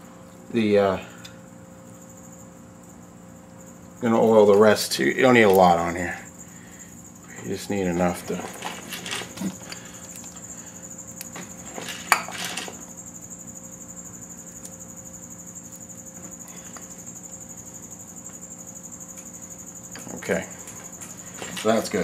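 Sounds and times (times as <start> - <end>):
steady hum with thin whine: 0.0 - 22.0.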